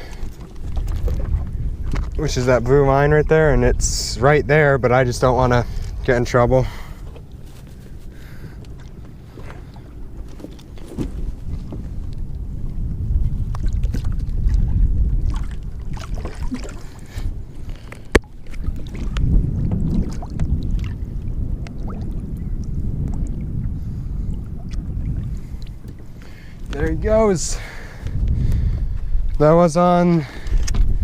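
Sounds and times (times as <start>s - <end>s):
small boat on open water: 0.0s - 31.0s
wind rumbling on microphone: 0.0s - 31.0s.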